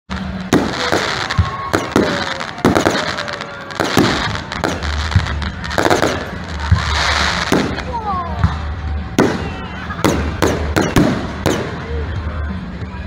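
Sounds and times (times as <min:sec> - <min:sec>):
fireworks bangs: 0:00.1 - 0:12.0
fireworks crackling: 0:00.1 - 0:12.4.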